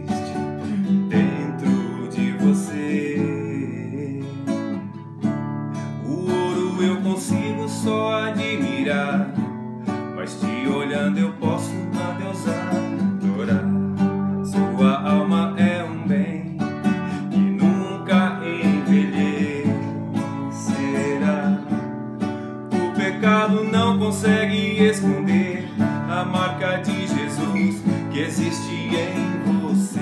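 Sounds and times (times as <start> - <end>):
man singing: 0.0 - 4.9, 5.9 - 22.0, 22.6 - 30.0
nylon-string guitar strummed: 0.0 - 30.0.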